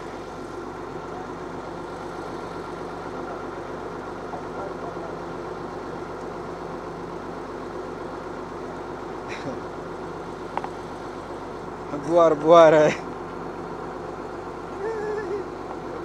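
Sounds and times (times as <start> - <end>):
bulldozer diesel engine idling: 0.0 - 16.0.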